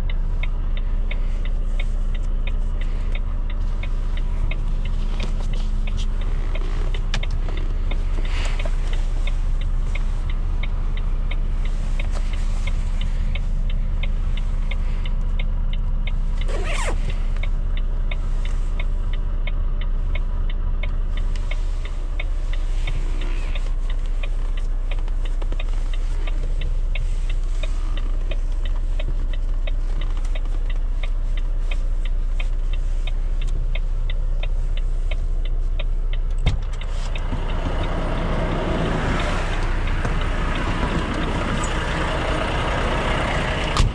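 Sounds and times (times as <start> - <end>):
truck engine running: 0.0 - 43.9.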